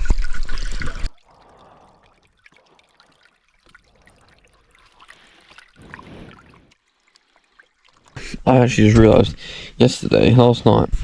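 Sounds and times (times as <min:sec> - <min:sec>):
water splashing: 0:00.0 - 0:09.1
stream trickling: 0:00.0 - 0:10.8.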